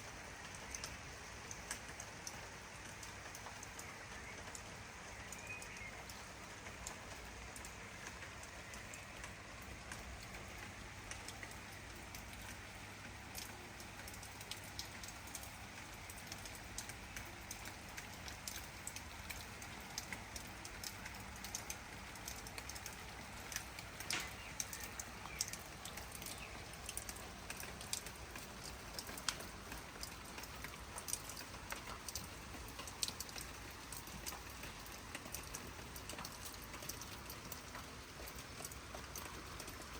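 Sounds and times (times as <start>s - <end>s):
raindrops ticking close by: 0.0s - 39.9s
steady rain hiss: 0.0s - 39.9s.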